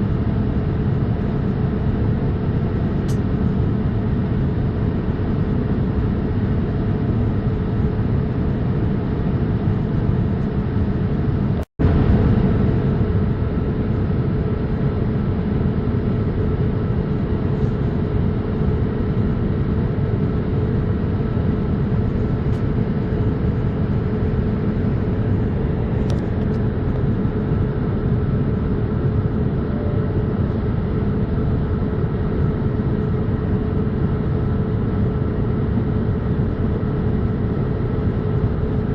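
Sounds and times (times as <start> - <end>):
airliner cabin engine rush: 0.0 - 38.9
constant cabin hum: 0.0 - 38.9.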